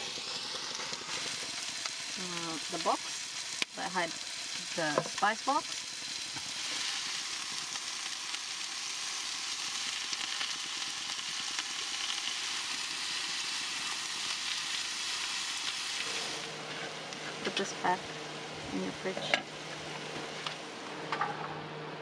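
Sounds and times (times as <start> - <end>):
food sizzling on a griddle: 0.0 - 21.4.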